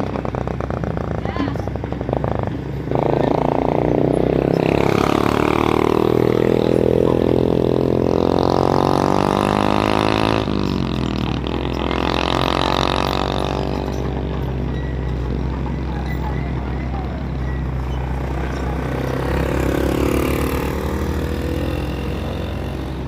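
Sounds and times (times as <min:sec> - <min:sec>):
excavator diesel engine under load: 0:00.0 - 0:23.0.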